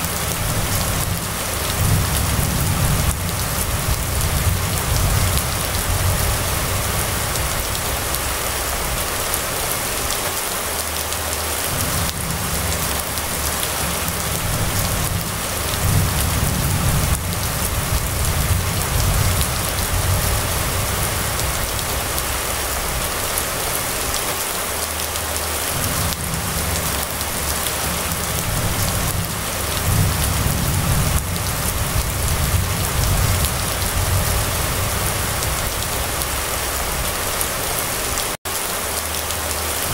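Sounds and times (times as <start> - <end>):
low rumbles: 0.0 - 10.2, 11.3 - 24.2, 25.6 - 38.2
rain falling on street: 0.0 - 39.9.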